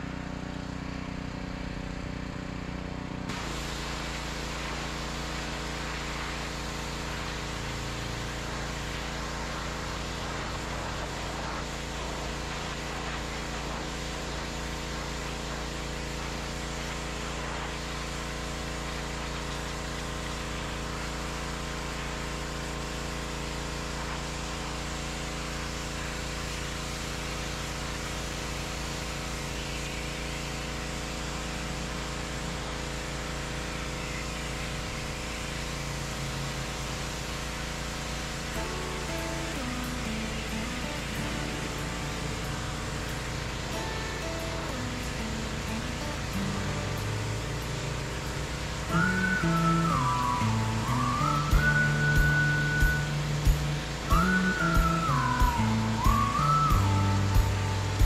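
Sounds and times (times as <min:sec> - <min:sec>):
pressure washer engine running: 0:00.0 - 0:58.0
water spraying onto concrete: 0:00.0 - 0:58.0.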